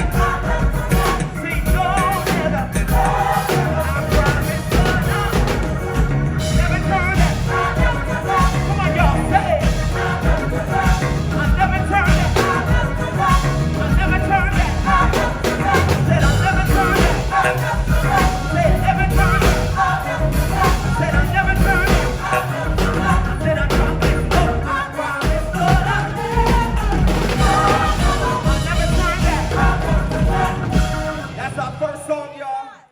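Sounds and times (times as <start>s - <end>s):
gospel choir singing with band: 0.0s - 32.8s.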